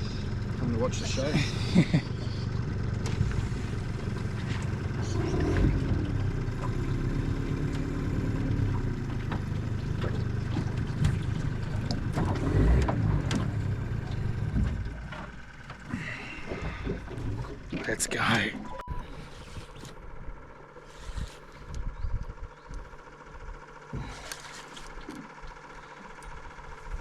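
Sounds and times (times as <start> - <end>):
outboard motor humming: 0.0 - 27.0.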